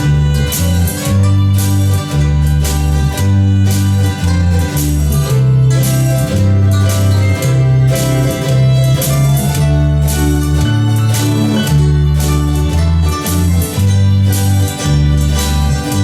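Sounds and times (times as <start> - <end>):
guitar: 0.0 - 16.0
mandolin melody: 0.0 - 16.0
walking bass line: 0.0 - 16.0.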